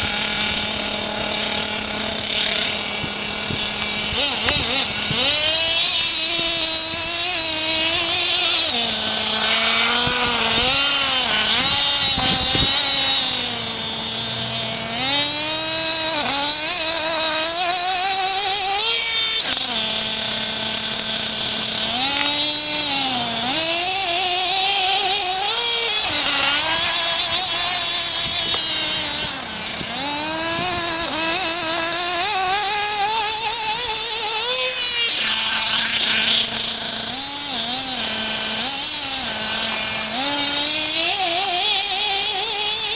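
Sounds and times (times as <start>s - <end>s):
rc car engine revving: 0.0s - 42.9s.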